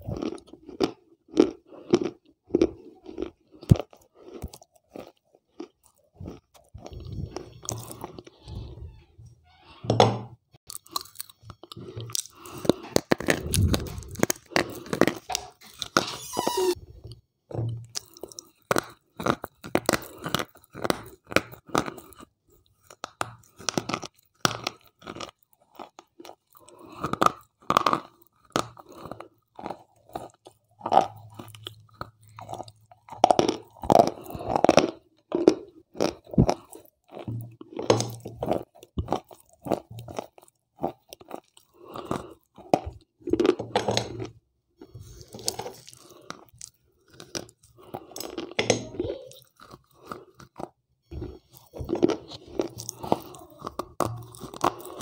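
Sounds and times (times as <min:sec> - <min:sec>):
crunching bites and chews: 0:00.0 - 0:08.4, 0:10.6 - 0:55.0.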